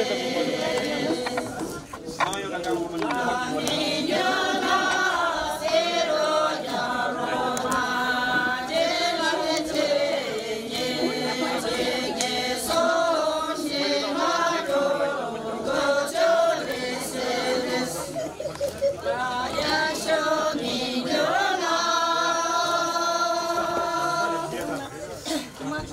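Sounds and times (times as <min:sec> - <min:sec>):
group of voices chanting: 0:00.0 - 0:18.2, 0:19.0 - 0:24.9.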